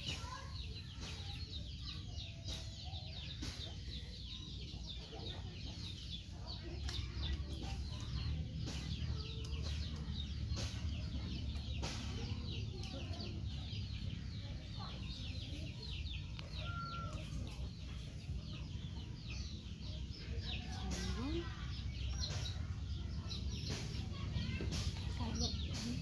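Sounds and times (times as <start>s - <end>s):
birds chirping chorus: 0.0s - 26.0s.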